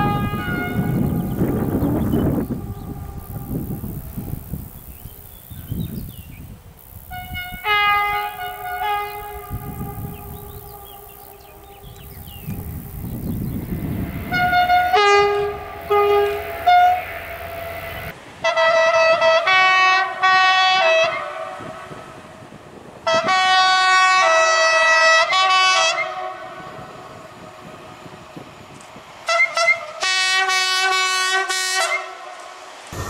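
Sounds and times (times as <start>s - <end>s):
locomotive horn blasts: 0.0s - 6.0s, 6.8s - 22.4s, 23.0s - 27.6s, 29.2s - 32.4s.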